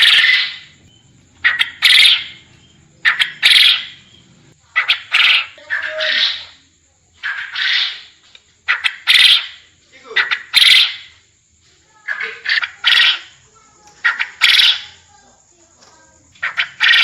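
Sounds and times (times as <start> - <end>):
quail crowing: 0.0 - 6.6, 7.2 - 11.2, 12.0 - 13.4, 14.0 - 15.0, 16.4 - 17.0.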